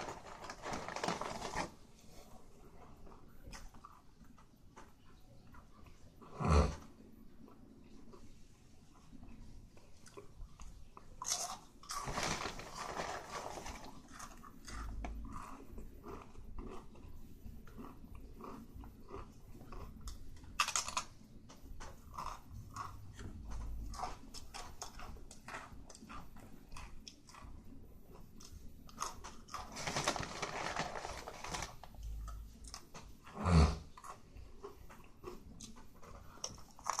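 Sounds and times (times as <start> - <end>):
person chewing and crunching food: 0.0 - 37.0.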